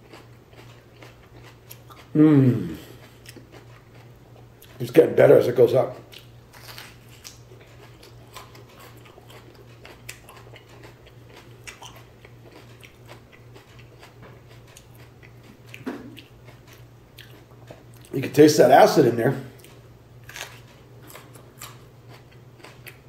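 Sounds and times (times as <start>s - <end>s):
person chewing crunchy pepper: 0.0s - 5.0s, 5.8s - 18.2s, 19.5s - 23.0s
steady low hum: 0.0s - 23.0s.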